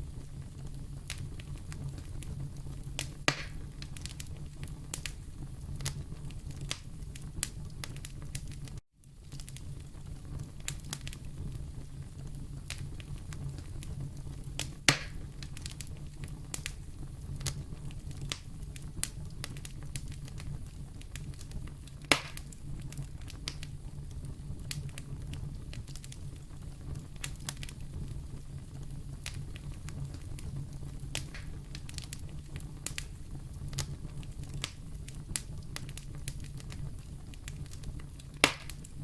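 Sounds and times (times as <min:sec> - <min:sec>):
low rumble of flames: 0:00.0 - 0:39.0
wood fire crackling: 0:00.0 - 0:39.0.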